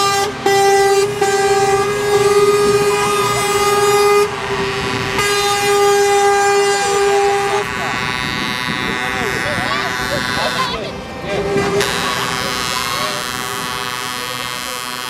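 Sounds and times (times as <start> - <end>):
truck air horn blasts: 0.0 - 15.0.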